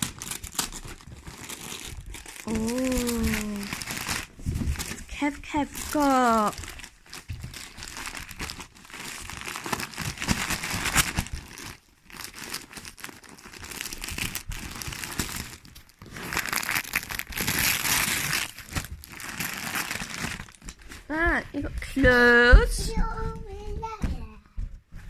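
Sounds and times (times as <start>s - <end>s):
wrapping paper tearing and crumpling: 0.0s - 21.1s.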